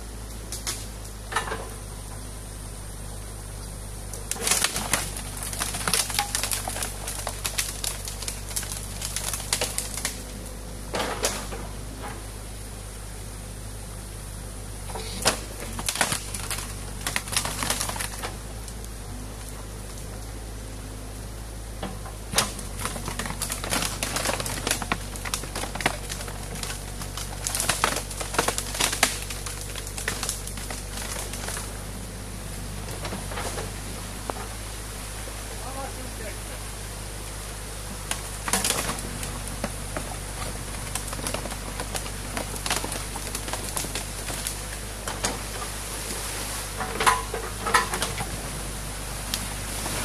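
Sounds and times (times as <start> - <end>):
excavator engine running: 0.0 - 50.0
branches cracking and snapping: 0.4 - 1.2, 4.1 - 12.3, 14.8 - 20.3, 21.8 - 50.0.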